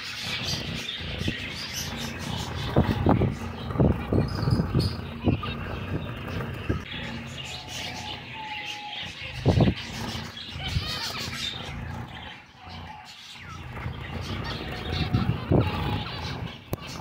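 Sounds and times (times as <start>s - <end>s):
finches chirping: 0.0s - 17.0s
steady low hum: 0.0s - 17.0s.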